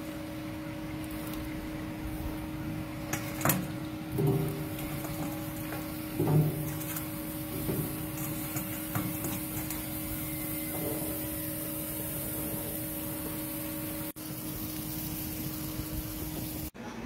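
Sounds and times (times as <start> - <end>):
machine hum: 0.0 - 16.8
even hiss: 3.1 - 16.8.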